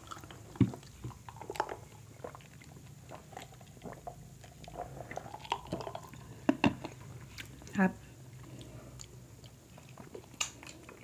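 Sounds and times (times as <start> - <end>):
chewing and wet mouth sounds: 0.0 - 11.0.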